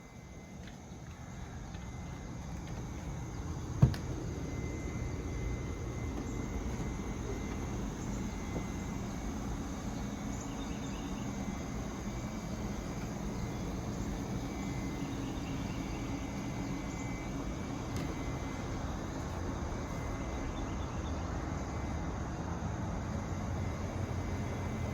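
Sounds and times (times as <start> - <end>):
faint insect-like drone: 0.0 - 24.9.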